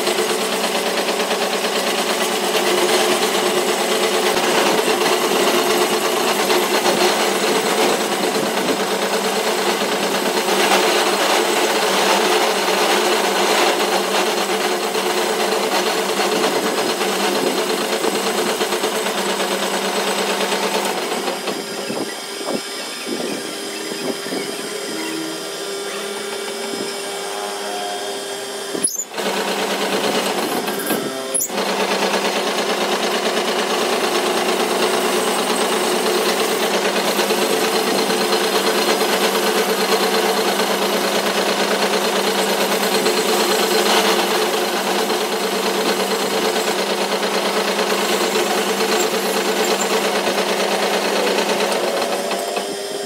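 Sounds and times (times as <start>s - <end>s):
lathe motor hum: 0.0s - 53.0s
lathe cutting tool grinding hiss: 1.8s - 53.0s.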